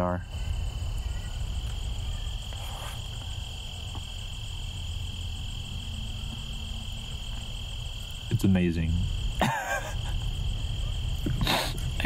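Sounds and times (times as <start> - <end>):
crickets trilling: 0.0 - 12.0
fast-pulsing insect call: 0.0 - 12.0.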